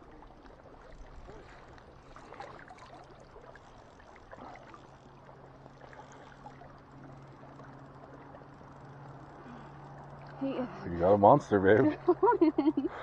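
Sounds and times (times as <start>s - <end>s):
faint low hum: 0.0s - 13.0s
small waves lapping at shore: 0.0s - 13.0s.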